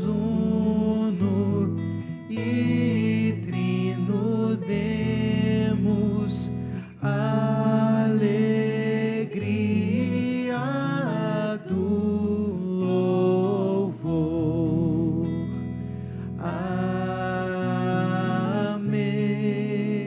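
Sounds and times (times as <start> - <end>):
person singing slow hymn: 0.0 - 20.0.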